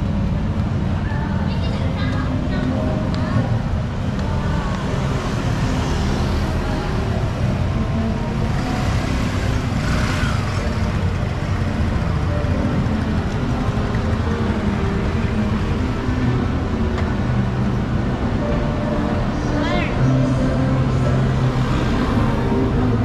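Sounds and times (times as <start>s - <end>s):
street traffic engines: 0.0s - 23.0s.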